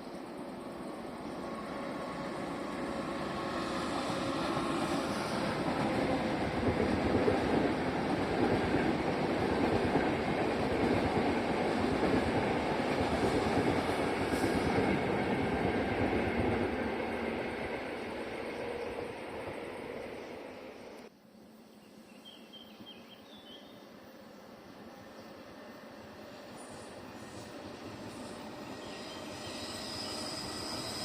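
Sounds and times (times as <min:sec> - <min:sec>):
train wheels rumbling on rails: 0:00.0 - 0:21.1, 0:25.3 - 0:31.0.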